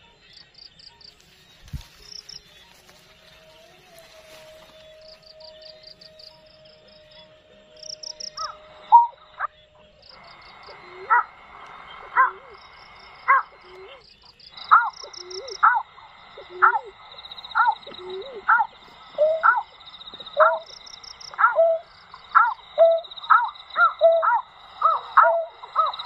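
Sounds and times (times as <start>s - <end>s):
high insect trill and chirping: 0.0s - 26.0s
bird calls with falling notes: 0.3s - 12.5s, 13.6s - 26.0s.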